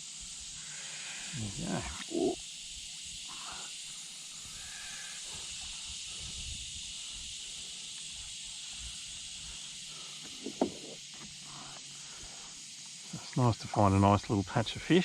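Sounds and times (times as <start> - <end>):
high-pitched hiss: 0.0 - 15.0.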